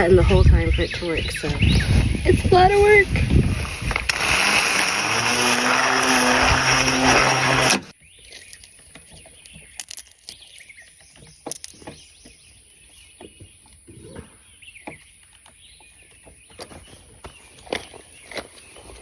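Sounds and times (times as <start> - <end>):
birds chirping: 0.0 - 4.4, 5.1 - 19.0.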